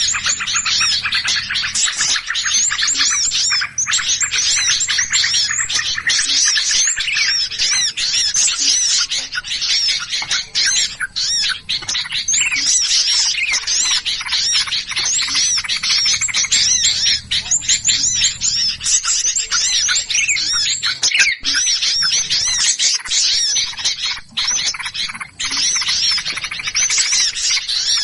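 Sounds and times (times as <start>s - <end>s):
small birds chattering and squawking: 0.0s - 28.0s.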